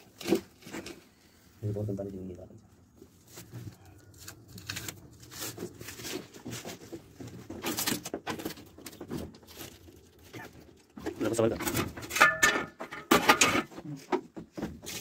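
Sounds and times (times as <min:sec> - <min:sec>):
rustling: 0:00.0 - 0:12.7.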